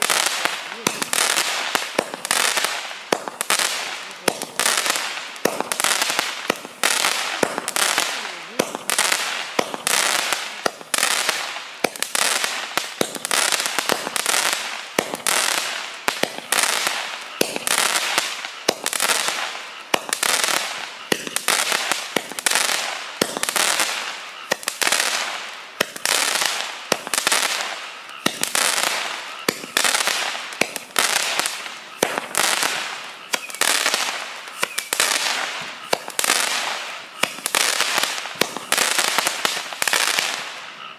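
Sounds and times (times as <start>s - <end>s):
firework burst crackle: 0.0s - 40.9s
firework cake firing pops: 0.0s - 40.9s.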